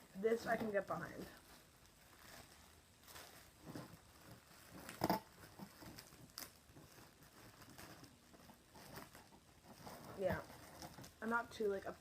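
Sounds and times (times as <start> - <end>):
packaging crackle: 0.0 - 11.9
packaging rustling and crinkling: 0.0 - 12.0.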